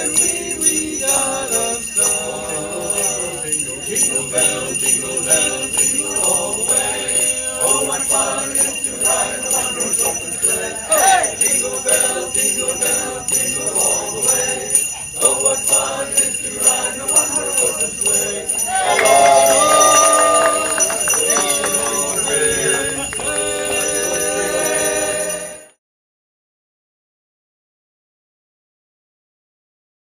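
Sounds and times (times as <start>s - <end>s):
jingle bells shaken: 0.0s - 25.7s
voices singing: 0.0s - 25.8s.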